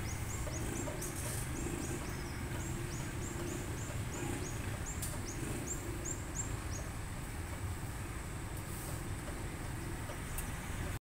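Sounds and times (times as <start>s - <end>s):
traffic rumble and idling cars: 0.0s - 11.0s.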